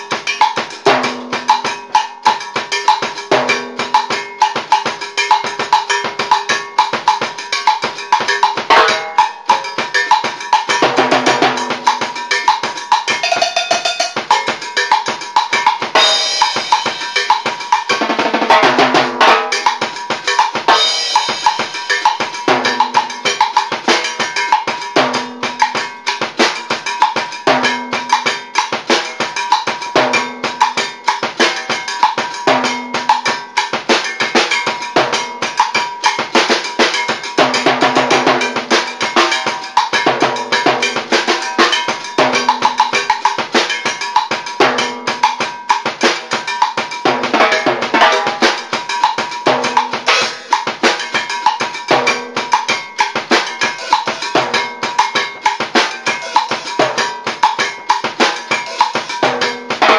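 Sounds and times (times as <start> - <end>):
timbales and drum kit groove: 0.0 - 59.9.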